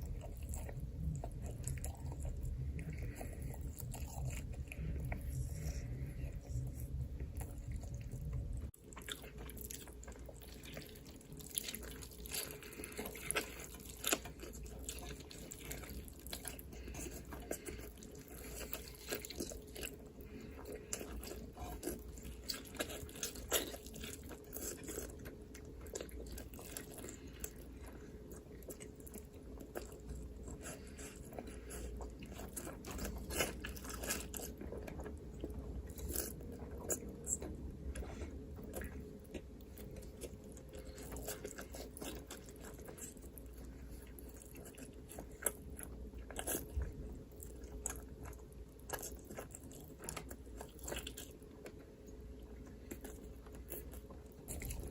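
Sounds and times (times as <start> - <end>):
faint low hum: 0.0 - 54.9
person chewing crunchy food: 0.0 - 54.9.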